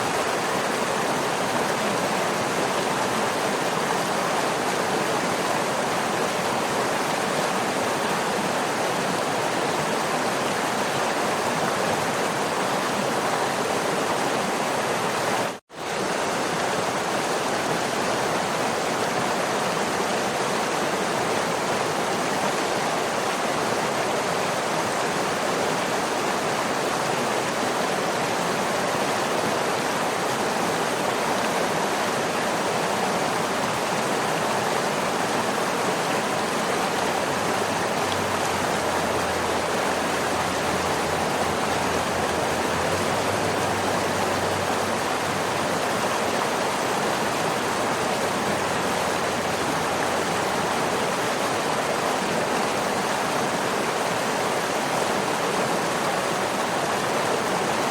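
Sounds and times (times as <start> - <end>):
waterfall roaring: 0.0 - 57.9.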